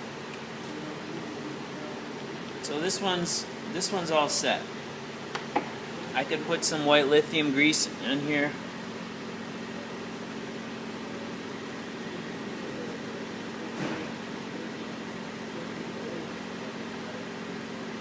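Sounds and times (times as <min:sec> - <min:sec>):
fan hum: 0:00.0 - 0:18.0.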